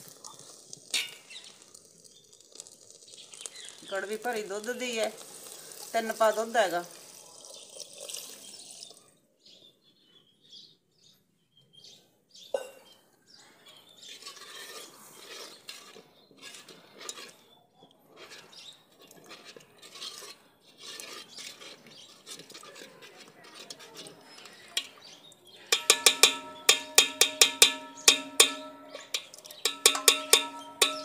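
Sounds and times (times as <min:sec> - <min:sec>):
ladle clinking and scraping pot: 0:00.0 - 0:08.9, 0:13.7 - 0:17.5, 0:18.1 - 0:31.0
milk pouring into pot: 0:00.0 - 0:09.2, 0:14.2 - 0:31.0.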